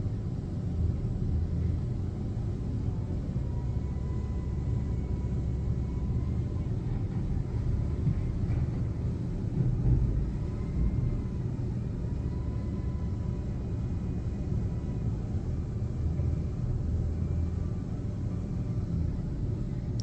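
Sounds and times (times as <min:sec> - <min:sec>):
garbage truck engine rumbling: 0:00.8 - 0:20.0.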